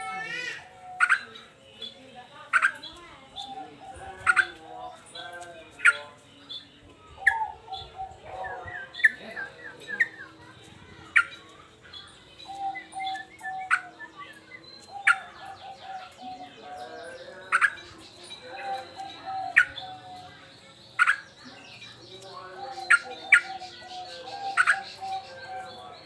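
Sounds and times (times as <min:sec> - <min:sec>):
bulbul singing: 0:00.0 - 0:26.0.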